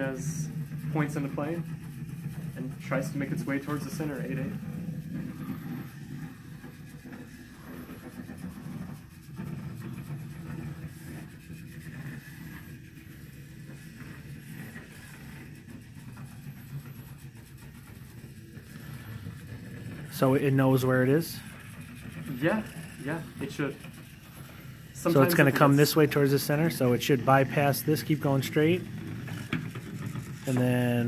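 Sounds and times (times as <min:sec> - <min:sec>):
small robot motors humming: 0:00.0 - 0:31.0.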